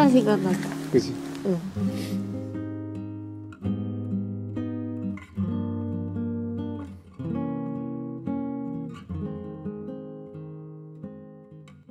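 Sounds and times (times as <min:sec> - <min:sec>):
acoustic guitar strummed chords: 0:00.0 - 0:11.9.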